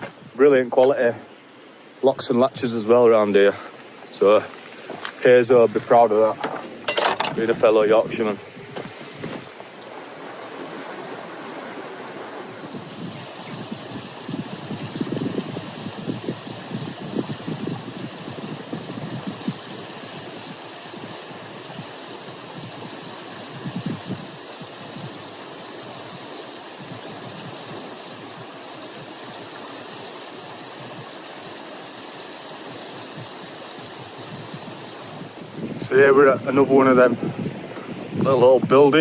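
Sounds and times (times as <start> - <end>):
rushing outdoor noise: 0.0 - 39.0
wind gusting on microphone: 4.1 - 31.2, 32.6 - 39.0.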